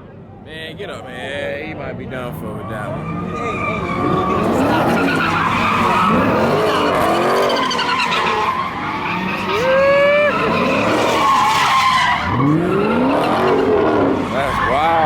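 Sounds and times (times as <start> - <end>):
car engines revving: 0.1 - 15.0
tyre squeal: 2.9 - 15.0.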